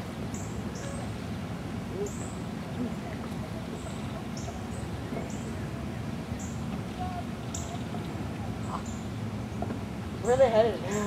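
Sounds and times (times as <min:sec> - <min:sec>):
faint distant voices: 0:01.8 - 0:11.0.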